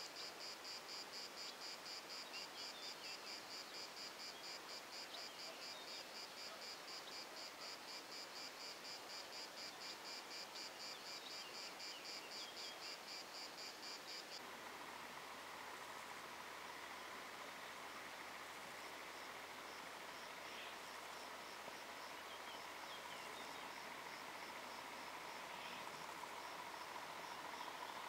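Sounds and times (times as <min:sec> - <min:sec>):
cricket chirping: 0:00.0 - 0:14.4, 0:15.7 - 0:28.0.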